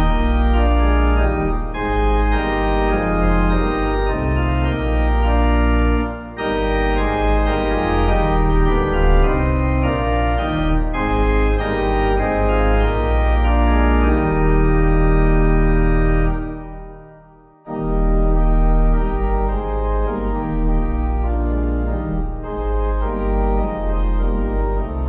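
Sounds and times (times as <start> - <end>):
organ playing a hymn: 0.0 - 25.0.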